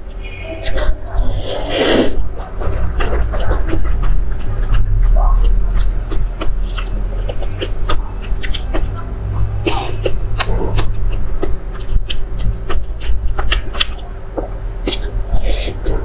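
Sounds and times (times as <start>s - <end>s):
steady low hum: 0.0s - 16.0s
wet chewing: 0.6s - 16.0s
lip smacks and clicks: 2.4s - 15.9s.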